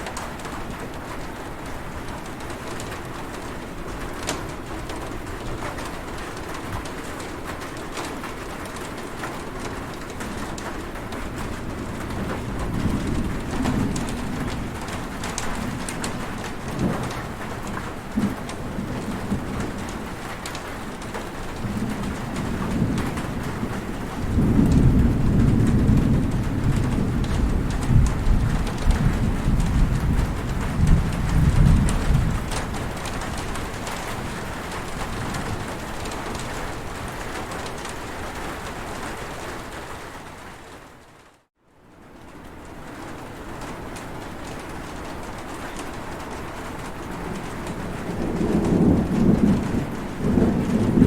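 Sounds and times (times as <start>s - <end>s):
thunder rumbling: 0.0s - 39.8s, 43.5s - 51.0s
heavy rain falling: 0.0s - 51.0s.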